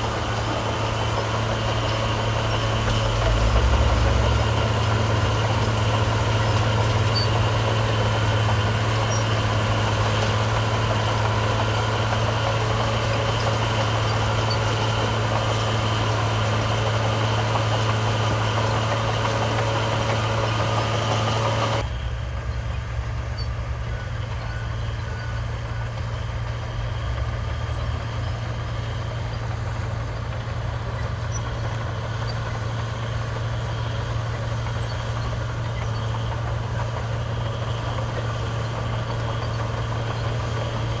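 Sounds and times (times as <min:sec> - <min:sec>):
dull engine: 0:00.0 - 0:41.0
heavy diesel engines humming: 0:00.0 - 0:41.0.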